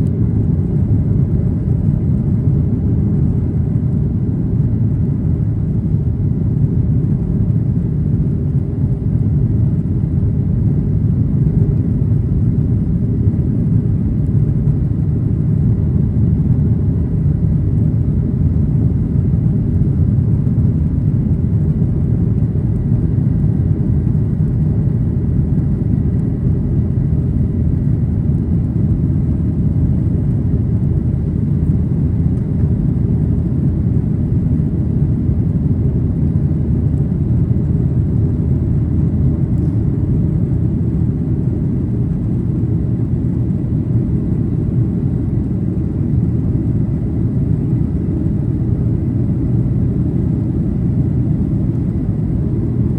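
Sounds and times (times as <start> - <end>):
jet engine rumble in cabin: 0.0 - 52.9.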